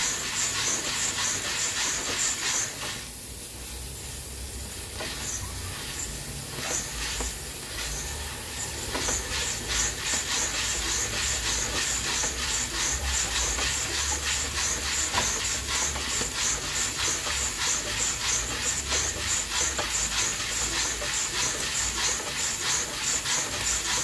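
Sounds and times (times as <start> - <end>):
beans swishing in a roaster: 0.0 - 24.0
coffee beans sizzling in a roaster: 0.0 - 24.0.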